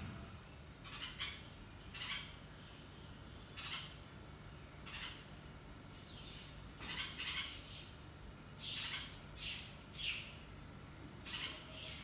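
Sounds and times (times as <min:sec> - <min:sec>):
birds giving harsh calls: 0:00.0 - 0:12.0.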